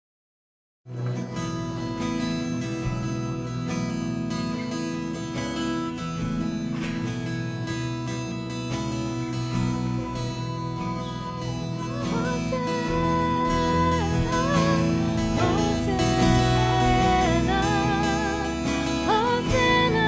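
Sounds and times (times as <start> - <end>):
acoustic guitar strumming: 0.9 - 20.0
sustained held chords: 0.9 - 20.0.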